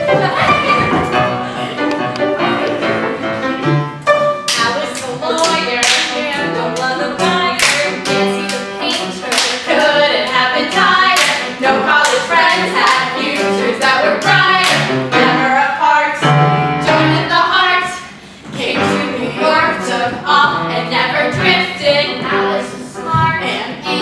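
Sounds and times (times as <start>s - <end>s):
women singing together: 0.0s - 3.0s, 4.6s - 24.0s.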